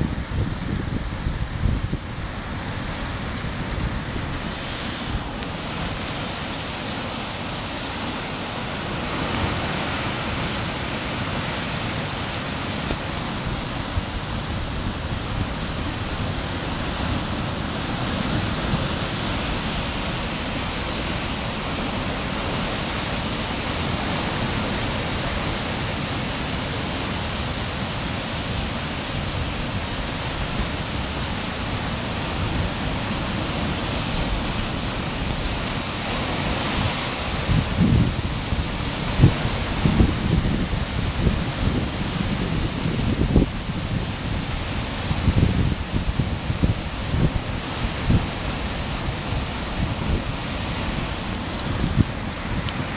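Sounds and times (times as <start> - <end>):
waves breaking on rocks: 1.3 - 52.9.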